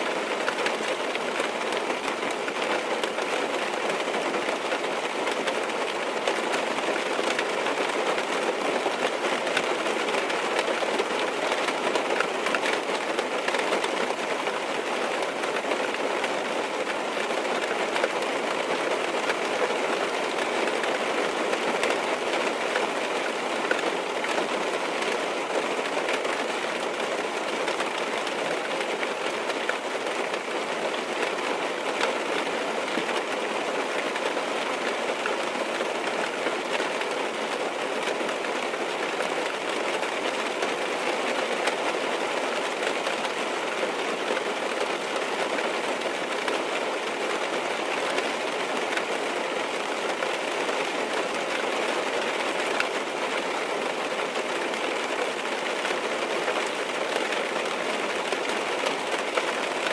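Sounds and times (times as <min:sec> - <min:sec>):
rain on a car roof: 0:00.0 - 0:59.9.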